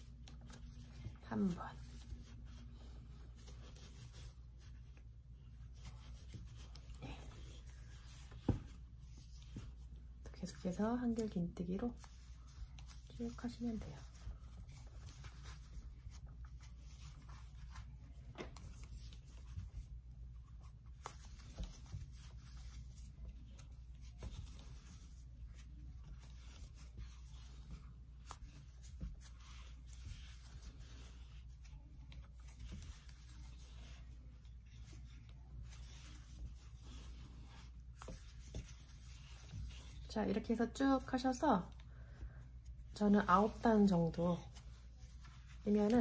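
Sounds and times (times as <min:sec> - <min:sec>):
yarn rustling through stitches: 0:00.0 - 0:46.0.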